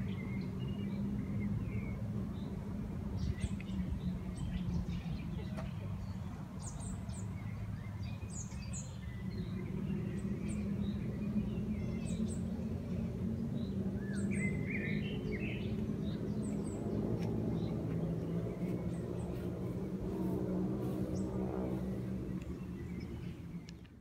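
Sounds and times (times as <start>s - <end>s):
songbirds chirping: 0.0s - 24.0s
steady low hum: 0.0s - 24.0s.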